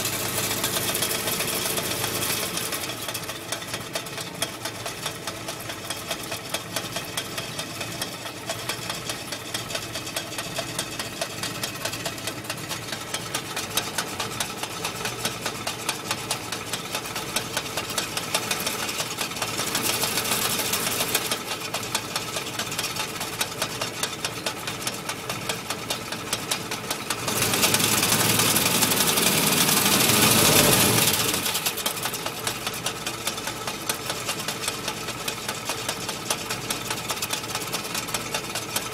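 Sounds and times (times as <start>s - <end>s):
engine running with fast rattle: 0.0s - 38.9s.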